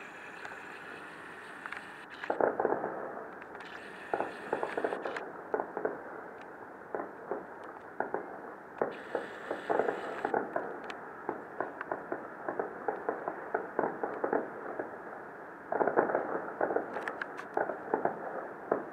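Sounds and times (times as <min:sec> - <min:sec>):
distant fireworks bursting: 0:00.0 - 0:15.1, 0:15.7 - 0:18.9.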